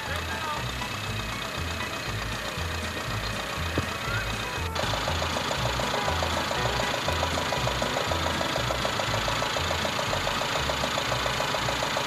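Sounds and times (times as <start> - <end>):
fast even ticking: 0.0 - 12.0
tractor engine idling: 0.0 - 12.0.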